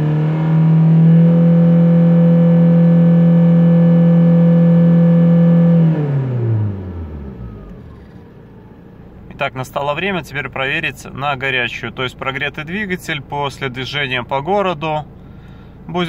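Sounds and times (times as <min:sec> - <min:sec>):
diesel engine revving: 0:00.0 - 0:16.0.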